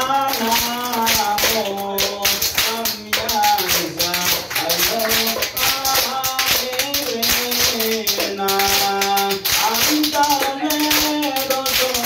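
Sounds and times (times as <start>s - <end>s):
men singing in unison: 0.0s - 12.0s
rhythmic hand claps: 0.0s - 12.0s.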